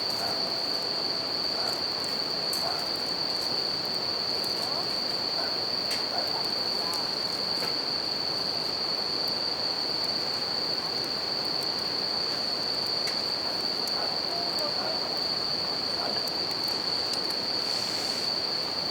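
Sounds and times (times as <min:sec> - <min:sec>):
campfire crackles: 0:00.0 - 0:18.9
crickets singing: 0:00.0 - 0:18.9.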